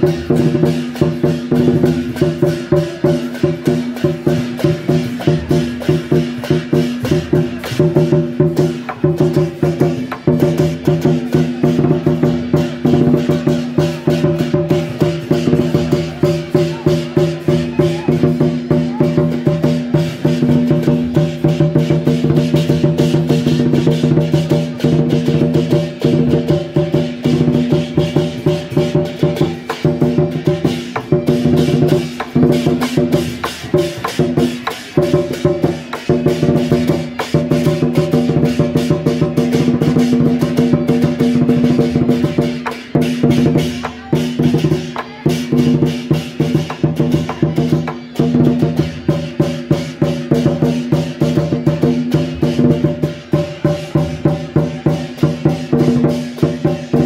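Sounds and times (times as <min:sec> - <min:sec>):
drums beating: 0:00.0 - 0:57.0.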